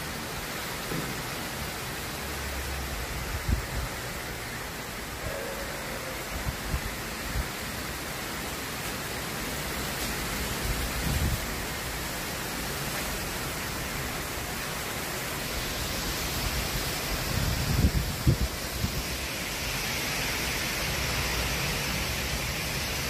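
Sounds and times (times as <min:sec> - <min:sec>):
heavy rain and wind hiss: 0:00.0 - 0:23.0.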